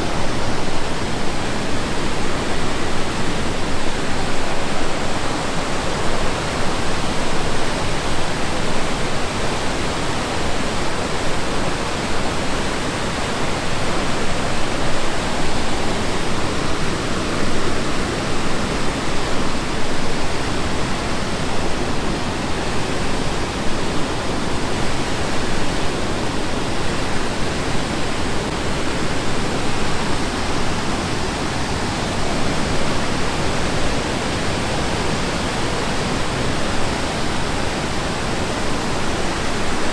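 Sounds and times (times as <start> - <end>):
water rushing through gorge: 0.0 - 39.9.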